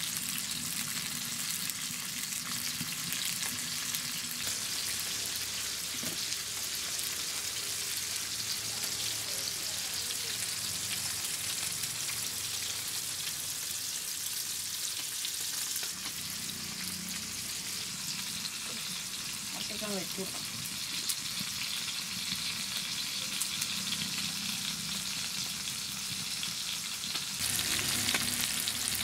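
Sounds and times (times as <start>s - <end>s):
fish frying in oil: 0.0s - 29.0s.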